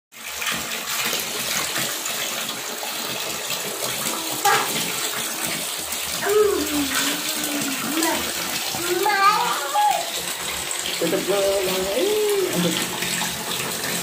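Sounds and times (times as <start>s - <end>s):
water splashing into plastic tray: 0.2s - 14.0s.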